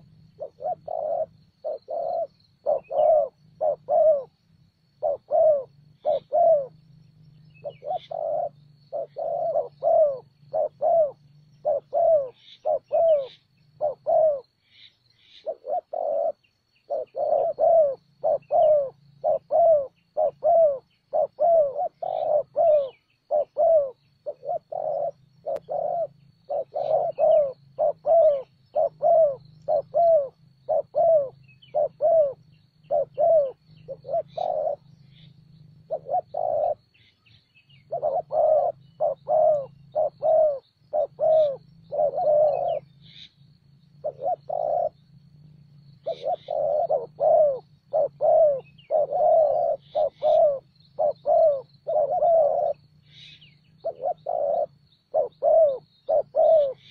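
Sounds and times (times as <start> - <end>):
doves cooing: 0.0 - 56.9
small birds chirping faintly: 0.0 - 56.9.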